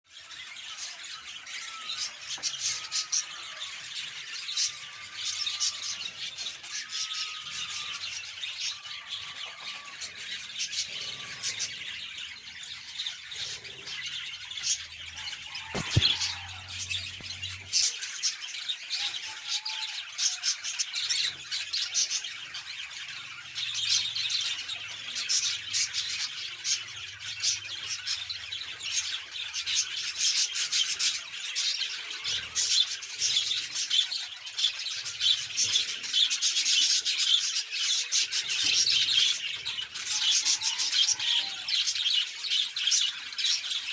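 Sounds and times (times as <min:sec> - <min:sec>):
budgerigars chattering: 0:00.2 - 0:43.9.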